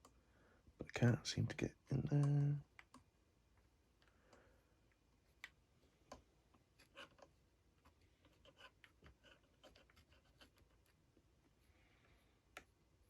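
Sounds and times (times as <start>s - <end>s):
faint small clicks and taps: 2.0s - 12.8s.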